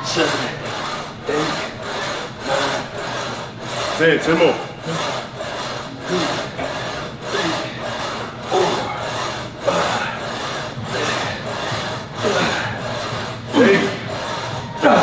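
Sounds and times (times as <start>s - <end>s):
leg press machine rasping: 0.0s - 15.0s.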